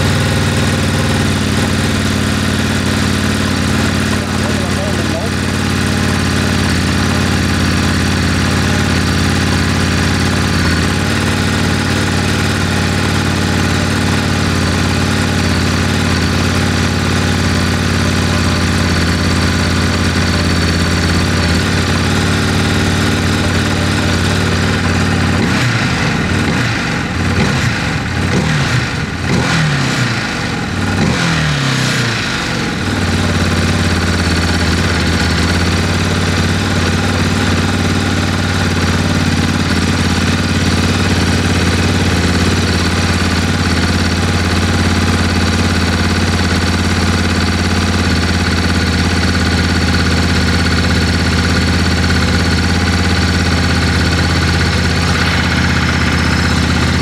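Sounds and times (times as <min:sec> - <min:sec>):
motorcycle engine idling: 0:00.0 - 0:57.0
motorcycle throttle blips: 0:00.0 - 0:57.0.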